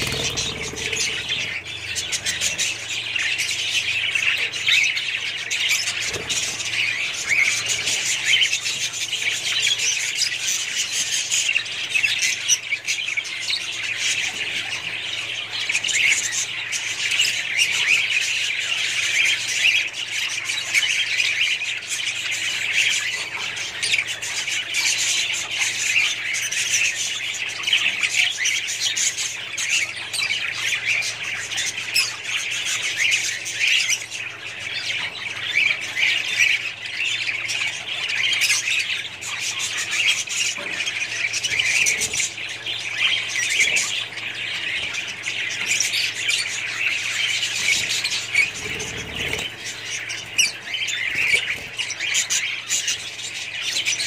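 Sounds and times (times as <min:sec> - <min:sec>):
budgerigars chattering and squawking: 0:00.0 - 0:54.0.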